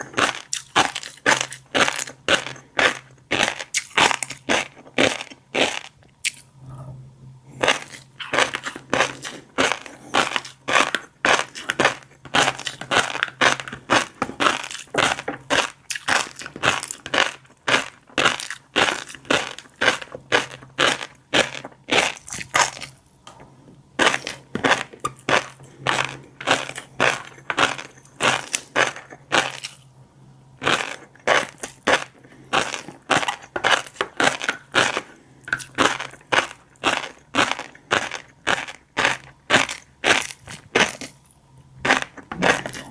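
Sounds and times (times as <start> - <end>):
chewing crackling fish roe: 0.0 - 6.9, 7.5 - 23.4, 24.0 - 42.9
faint low hum: 0.0 - 42.9.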